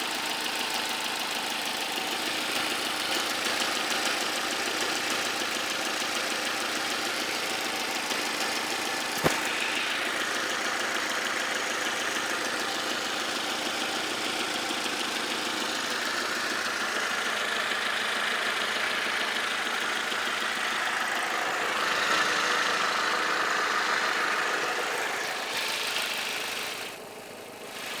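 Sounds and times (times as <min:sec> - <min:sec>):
car engine ticking: 0:00.0 - 0:28.0.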